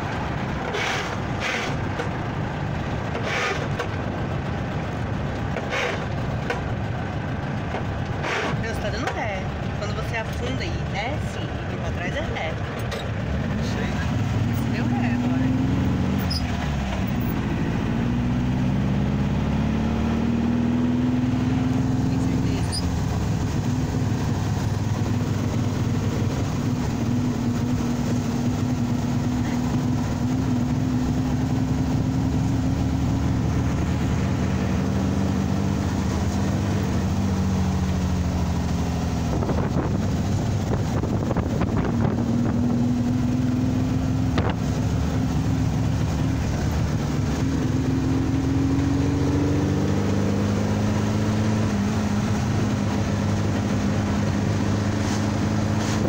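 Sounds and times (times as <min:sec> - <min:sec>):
dune buggy engine driving: 0:00.0 - 0:56.0
road and wind noise: 0:00.0 - 0:56.0.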